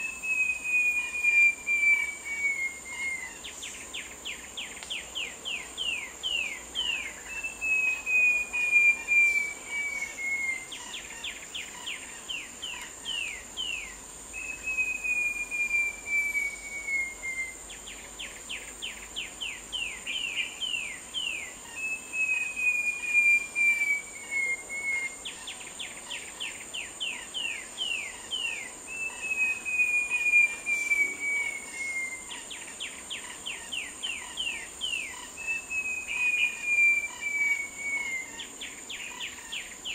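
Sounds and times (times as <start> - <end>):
bird singing: 0.0 - 39.9
high insect drone: 0.0 - 39.9.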